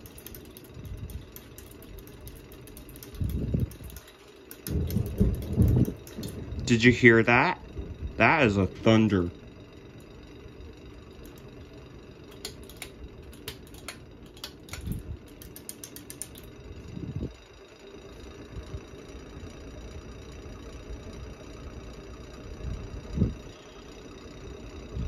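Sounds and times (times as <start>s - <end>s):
ceiling fan humming: 0.0s - 25.0s.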